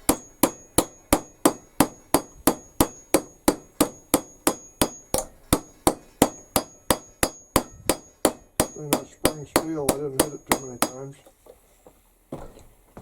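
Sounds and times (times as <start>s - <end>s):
hammer tapping on a rivet: 0.1s - 11.0s.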